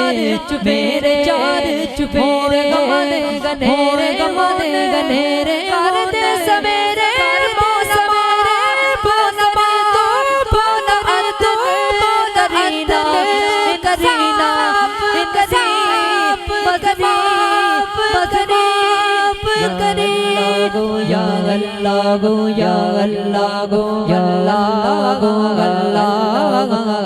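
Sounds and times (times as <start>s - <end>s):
person singing devotional song: 0.0s - 27.0s.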